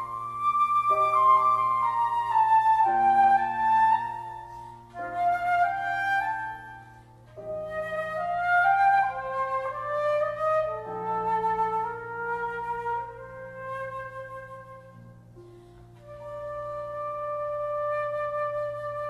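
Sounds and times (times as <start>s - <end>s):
flute playing a flowing melody: 0.0s - 19.0s.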